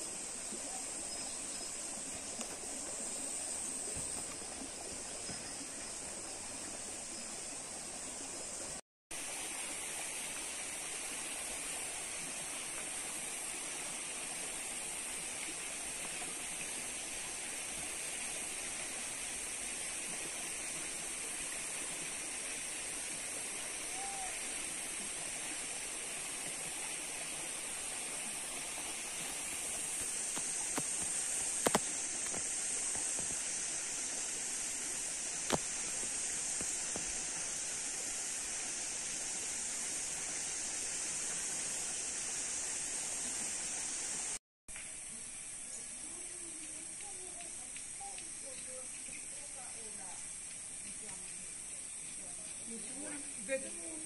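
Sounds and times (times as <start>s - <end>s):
outdoor hiss: 0.0s - 54.0s.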